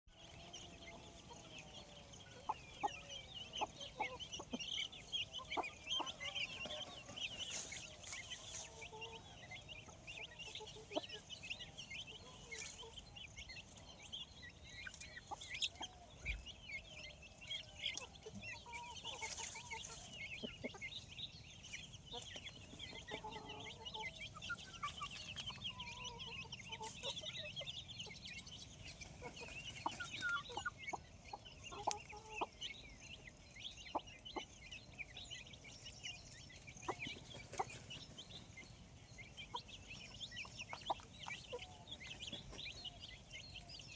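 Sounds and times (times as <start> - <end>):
chickens clucking: 0.1 - 43.9.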